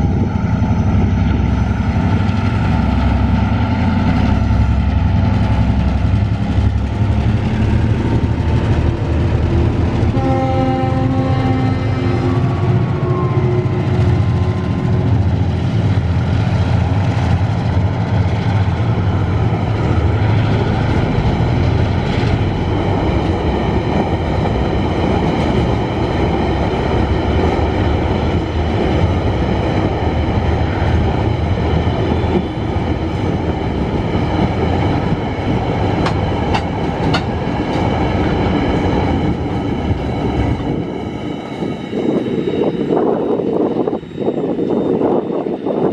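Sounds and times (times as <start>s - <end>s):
diesel locomotive rumble: 0.0s - 45.9s
train wheels rattling on rails: 0.0s - 45.9s.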